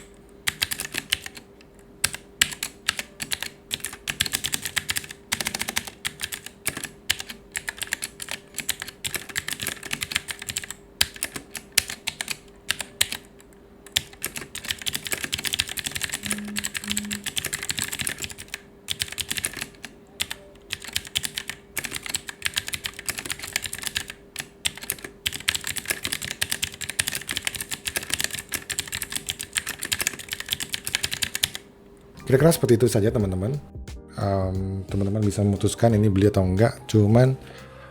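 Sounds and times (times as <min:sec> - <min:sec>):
clicky keyboard typing: 0:00.0 - 0:31.6.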